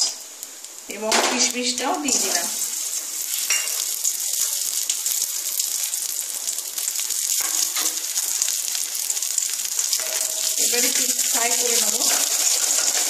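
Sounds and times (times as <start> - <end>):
ghee sizzling and crackling: 0.0 - 13.0.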